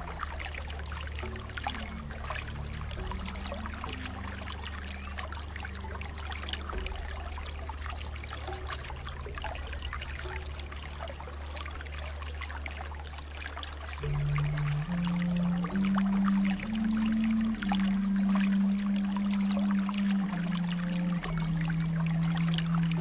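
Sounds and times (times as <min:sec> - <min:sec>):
low sustained drone: 0:00.0 - 0:23.0
water trickling and babbling: 0:00.0 - 0:23.0.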